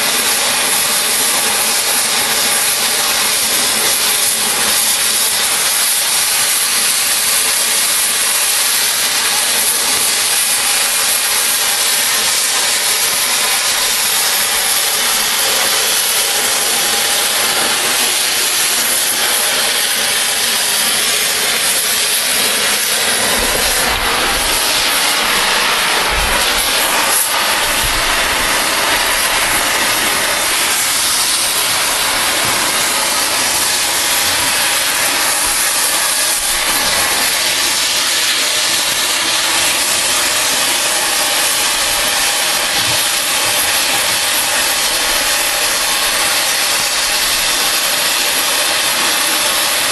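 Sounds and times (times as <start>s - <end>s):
cutting torch hissing: 0.0s - 49.9s.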